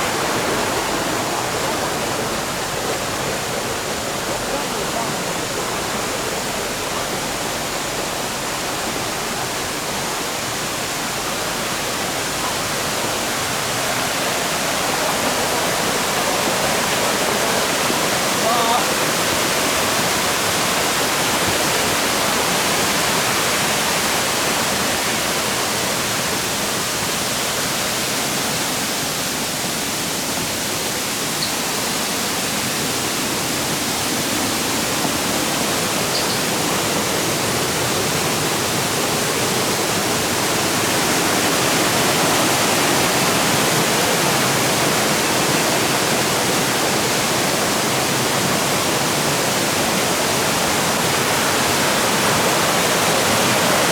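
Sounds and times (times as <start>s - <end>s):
water flowing over rocks: 0.0s - 53.9s.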